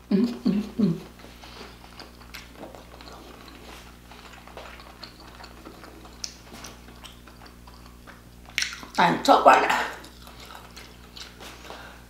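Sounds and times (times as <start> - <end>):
faint low hum: 0.0 - 12.0
person chewing wetly: 1.0 - 9.0, 9.9 - 11.9.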